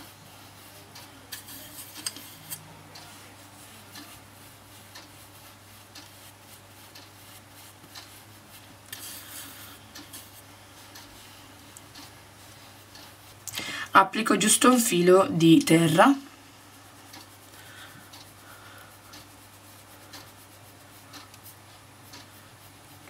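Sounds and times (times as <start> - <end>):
fingertips rubbing on skin: 0.0 - 13.4, 16.6 - 23.0
steady low hum: 0.0 - 23.0.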